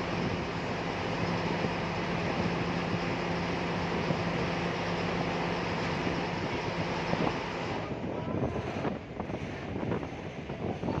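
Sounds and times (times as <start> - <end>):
wind blowing: 0.0 - 11.0.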